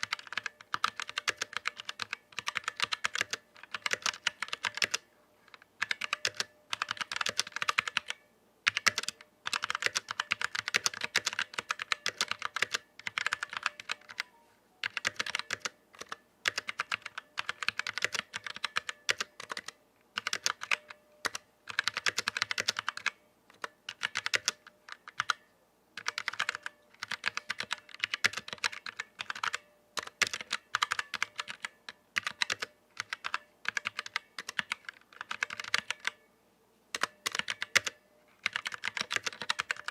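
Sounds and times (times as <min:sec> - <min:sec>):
mechanical keyboard clacks: 0:00.0 - 0:25.4, 0:26.0 - 0:36.2, 0:36.9 - 0:39.9.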